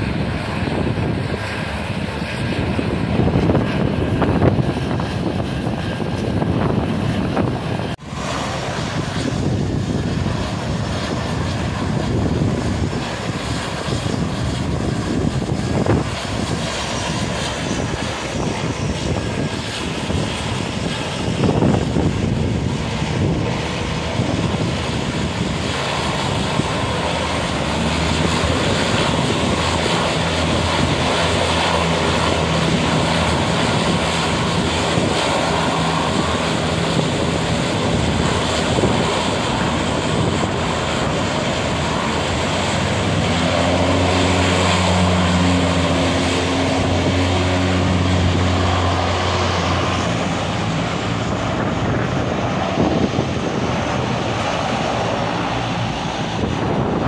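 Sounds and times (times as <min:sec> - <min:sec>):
propeller engines droning: 0:00.0 - 0:57.0.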